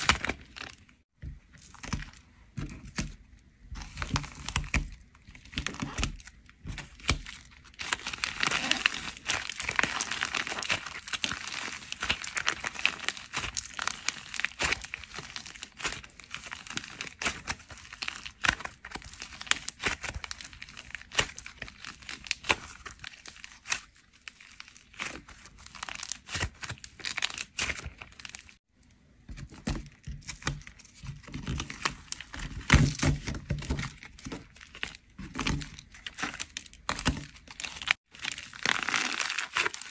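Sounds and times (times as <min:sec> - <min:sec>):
dried clay crackling and crunching: 0:00.0 - 0:39.9.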